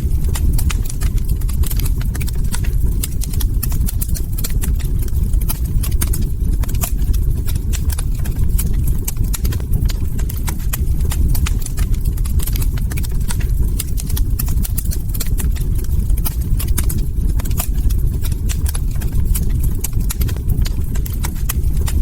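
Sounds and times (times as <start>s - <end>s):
log fire crackling: 0.0s - 22.0s
low rumble of burning: 0.0s - 22.0s.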